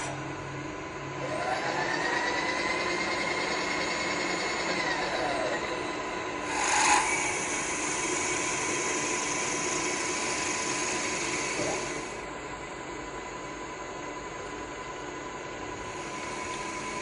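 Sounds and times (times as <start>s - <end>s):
milling machine whine: 0.0s - 12.9s, 14.8s - 17.0s.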